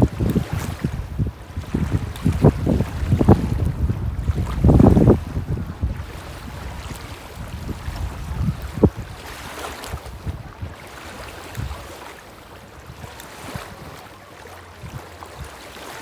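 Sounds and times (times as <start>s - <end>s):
wind buffeting microphone: 0.0s - 15.9s
waves washing on a beach: 0.0s - 16.0s.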